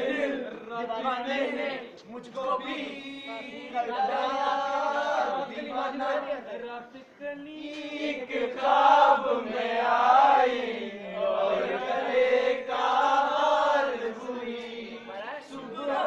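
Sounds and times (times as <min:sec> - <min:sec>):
men singing unaccompanied: 0:00.0 - 0:16.0.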